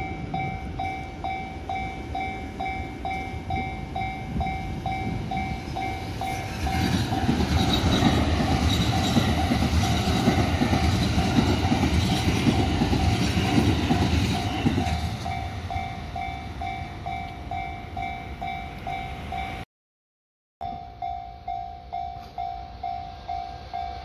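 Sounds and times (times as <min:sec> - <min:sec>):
crossing warning bell ringing: 0:00.0 - 0:19.6, 0:20.6 - 0:24.0
train wheels clacking on rails: 0:00.0 - 0:19.6.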